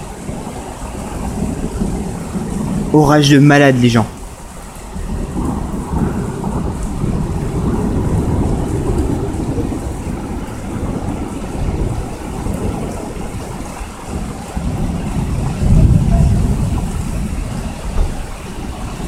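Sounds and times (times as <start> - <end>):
thunder rumbling: 0.0 - 19.0
torrential rain: 0.0 - 19.0.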